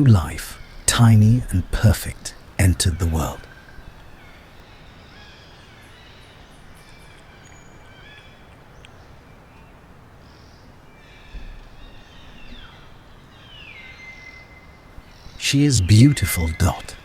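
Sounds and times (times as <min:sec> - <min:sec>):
bird calls and chirps: 0:00.0 - 0:17.0
steady background hiss: 0:00.0 - 0:17.0.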